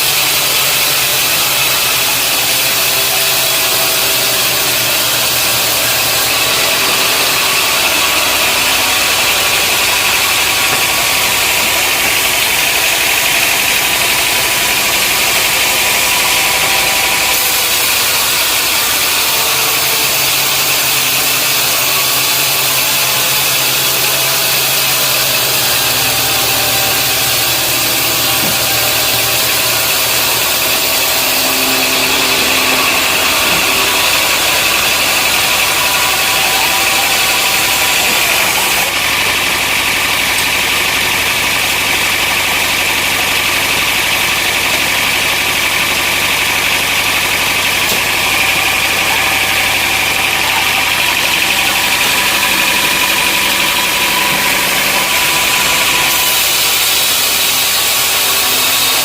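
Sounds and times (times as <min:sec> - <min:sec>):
high steady whine: 0:00.0 - 0:59.0
sawmill machinery running: 0:00.0 - 0:59.0.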